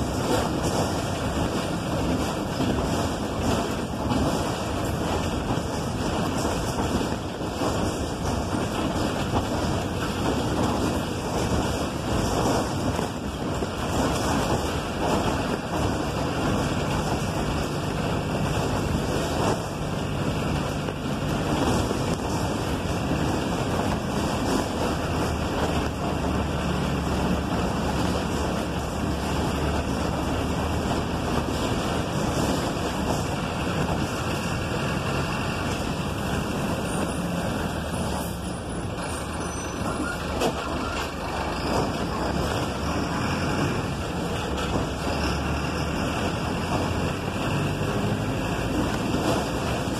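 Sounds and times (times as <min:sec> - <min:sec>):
bus engine and road rumble: 0:00.0 - 0:49.9.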